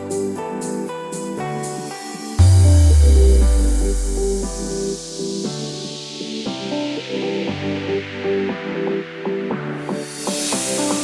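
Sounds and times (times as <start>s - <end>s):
instrumental background music: 0.1s - 11.0s.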